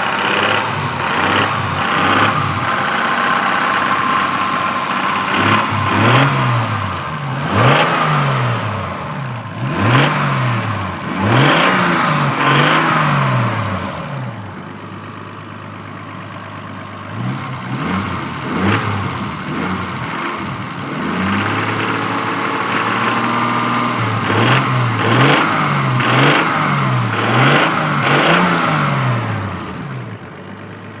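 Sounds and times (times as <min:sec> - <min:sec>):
car engine revving: 0:00.0 - 0:14.6, 0:16.9 - 0:30.3
odd engine noise under acceleration: 0:00.0 - 0:31.0.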